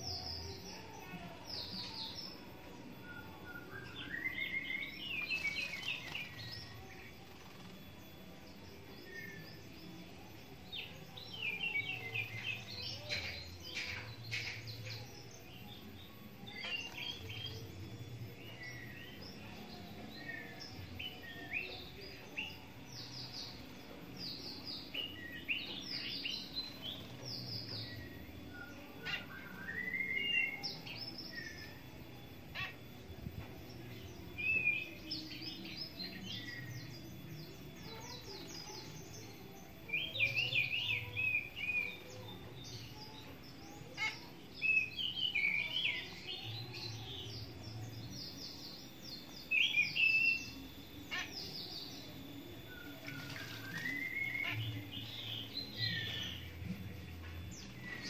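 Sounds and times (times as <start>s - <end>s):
birds chirping: 0.0s - 58.0s
faint low background noise: 0.0s - 58.0s.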